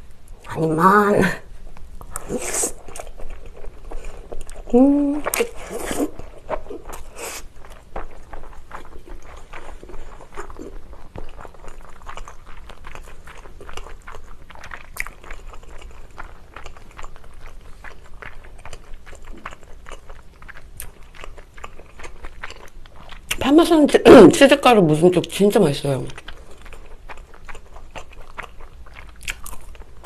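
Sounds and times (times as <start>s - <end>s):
person chewing pasta: 1.7s - 23.4s, 26.1s - 30.0s.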